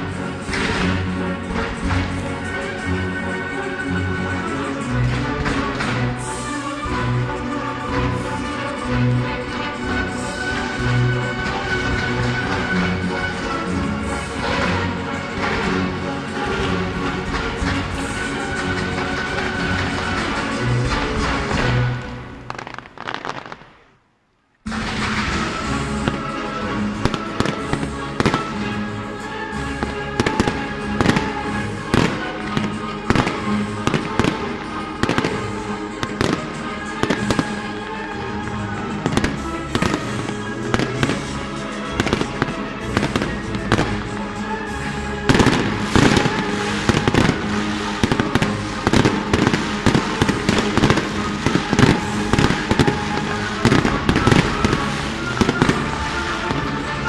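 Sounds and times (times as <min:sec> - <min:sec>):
music: 0:00.0 - 0:23.8, 0:24.6 - 0:57.0
fireworks bursting: 0:00.0 - 0:57.0.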